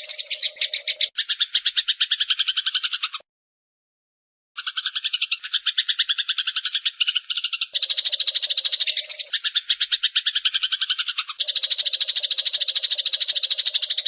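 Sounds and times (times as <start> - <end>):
sparrows chattering: 0.0 - 3.2, 4.6 - 14.0.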